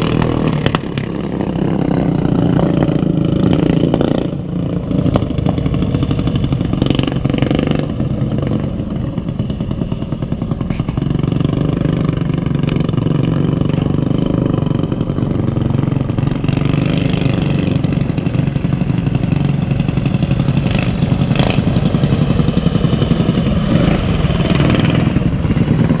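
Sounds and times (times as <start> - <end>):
lawnmower engine running hard: 0.0 - 26.0.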